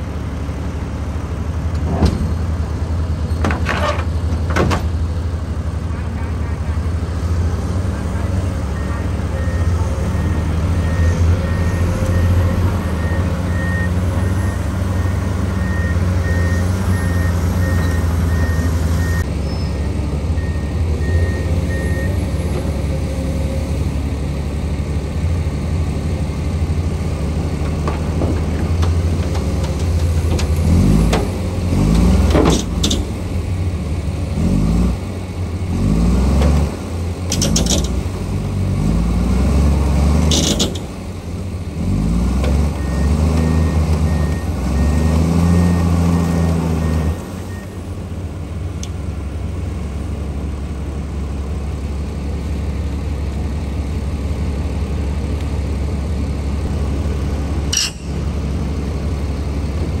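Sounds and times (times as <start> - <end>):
heavy diesel engines revving: 0.0 - 60.0.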